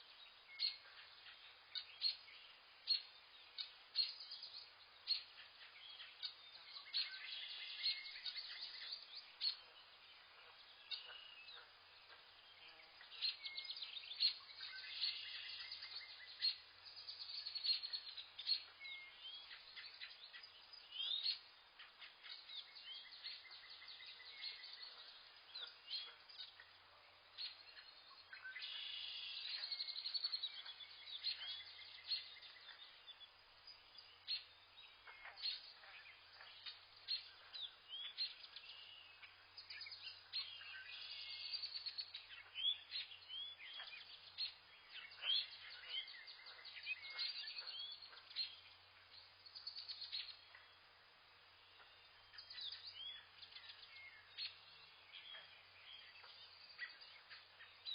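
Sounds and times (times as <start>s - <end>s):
faint background hiss: 0.0s - 57.9s
birds chirping and whistling: 0.2s - 26.8s, 27.4s - 50.8s, 51.8s - 57.9s.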